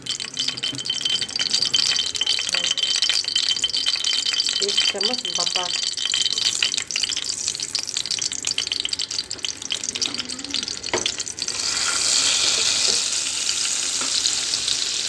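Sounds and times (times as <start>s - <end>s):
butter sizzling in a pan: 0.1s - 15.0s.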